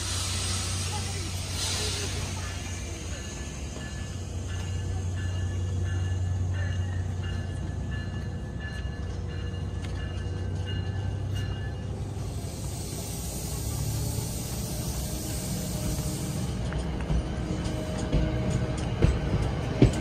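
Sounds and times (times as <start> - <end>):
train steady low hum: 0.0 - 20.0.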